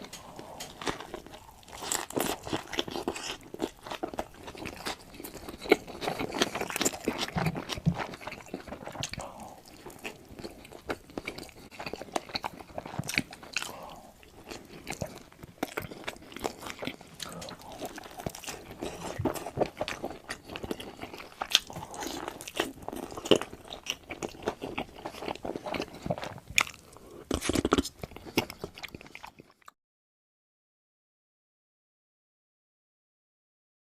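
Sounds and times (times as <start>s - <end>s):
crunching: 0.0s - 29.3s
person chewing food: 0.0s - 29.8s.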